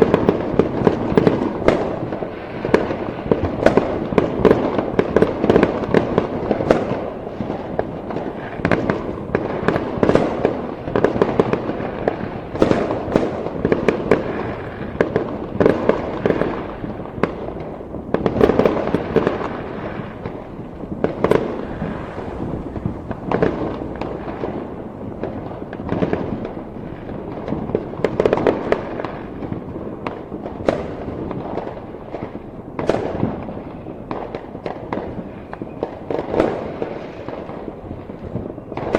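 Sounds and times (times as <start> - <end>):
fireworks bangs and crackles: 0.0 - 38.9
rumble of distant explosions: 0.0 - 38.9.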